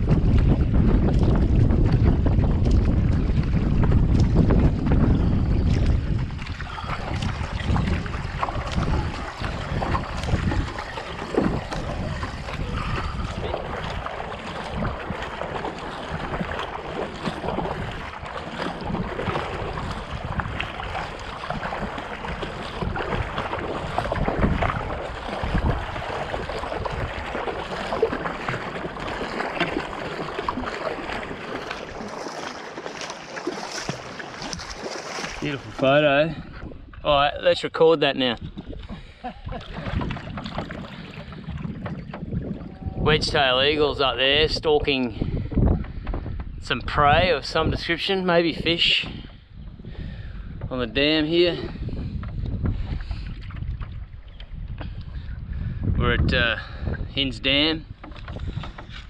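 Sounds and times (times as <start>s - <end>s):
kayak paddles splashing: 0.0s - 55.9s, 56.6s - 59.0s
water lapping along hulls: 0.0s - 59.0s
wind buffeting microphone: 0.0s - 59.0s.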